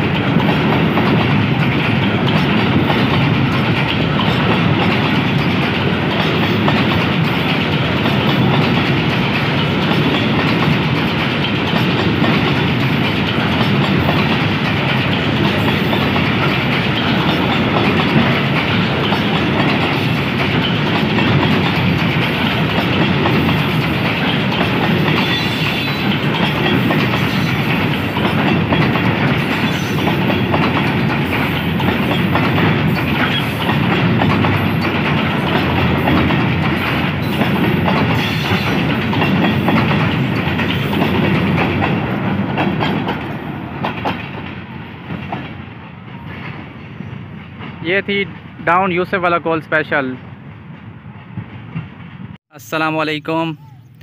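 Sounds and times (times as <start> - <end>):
steel wheels clattering on rails: 0.0 - 52.4
freight train rumbling past: 0.0 - 54.0.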